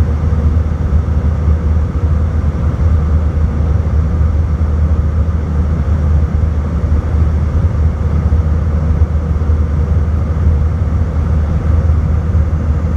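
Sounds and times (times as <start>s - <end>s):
jet engines and airflow rumble: 0.0s - 12.9s.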